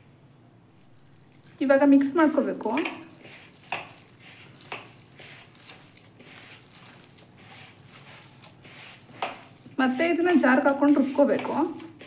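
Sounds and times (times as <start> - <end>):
hand kneading minced meat: 0.8 - 12.0.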